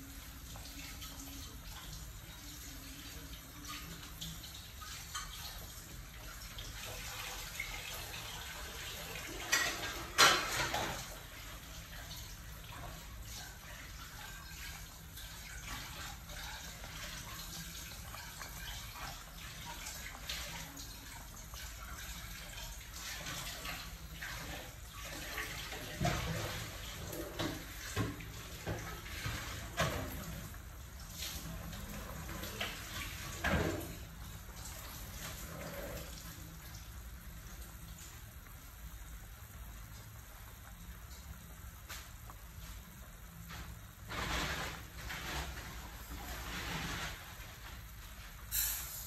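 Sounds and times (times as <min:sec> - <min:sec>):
soup bubbling: 0:03.9 - 0:44.2.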